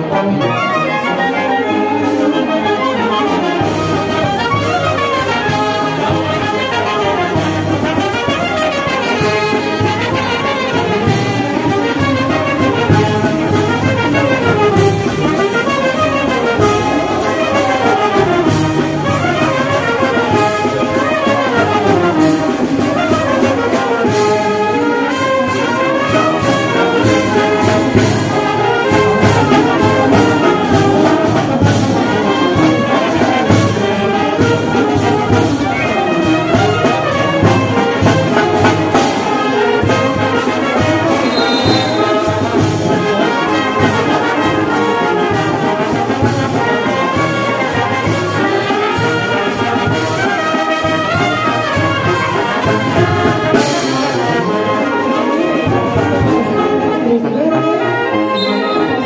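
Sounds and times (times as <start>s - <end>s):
brass band music: 0.0s - 59.0s.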